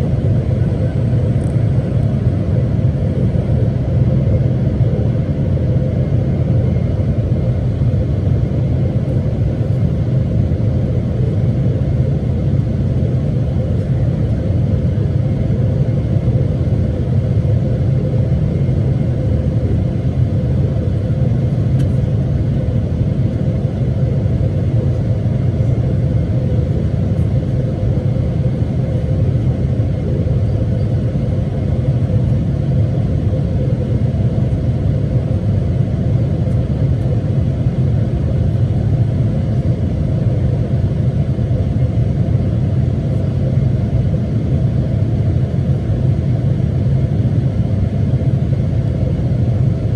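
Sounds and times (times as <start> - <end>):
airplane engine rumble in flight: 0.0 - 49.9.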